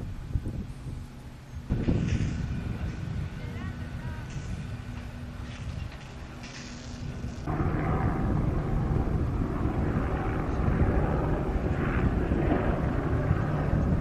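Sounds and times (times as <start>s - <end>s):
helicopter flying overhead: 0.0s - 14.0s.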